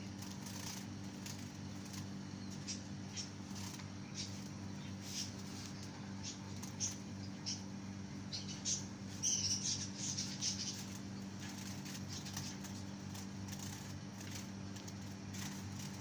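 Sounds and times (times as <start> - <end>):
steady low hum: 0.0 - 16.0
finches chirping: 0.5 - 13.9.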